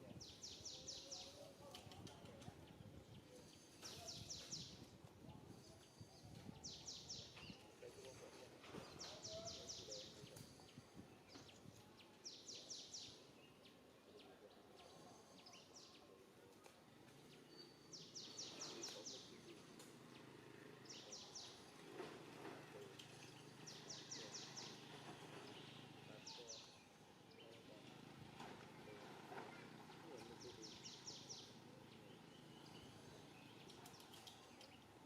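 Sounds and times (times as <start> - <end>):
faint bird song: 0.0 - 35.0.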